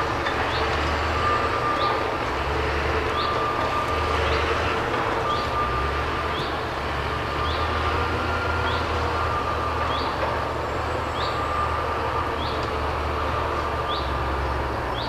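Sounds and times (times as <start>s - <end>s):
harvester engine drone: 0.0s - 15.0s.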